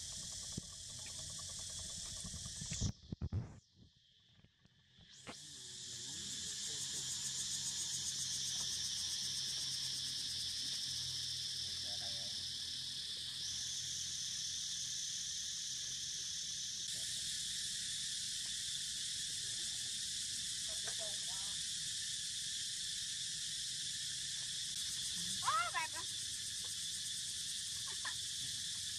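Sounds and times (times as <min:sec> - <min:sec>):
insects shrilling: 0:05.0 - 0:28.9.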